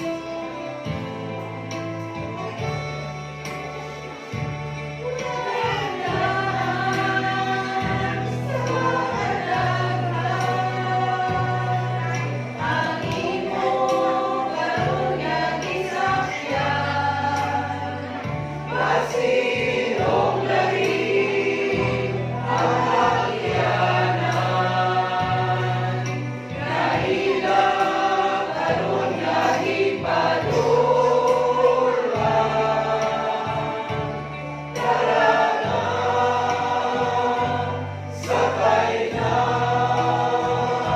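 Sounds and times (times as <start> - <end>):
choir singing gospel song: 0.0 - 40.9.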